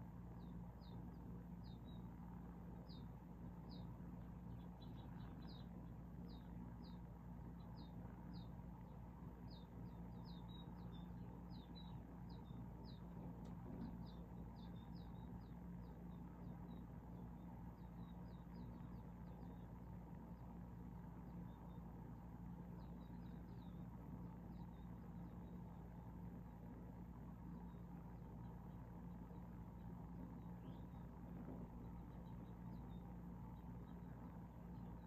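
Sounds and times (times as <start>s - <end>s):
faint low hum: 0.0s - 35.0s
small birds chirping: 0.0s - 35.0s.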